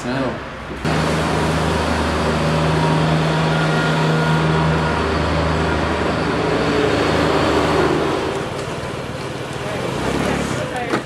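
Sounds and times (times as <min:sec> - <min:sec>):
street noise: 0:00.0 - 0:11.0
large vehicle engine droning: 0:00.6 - 0:11.0.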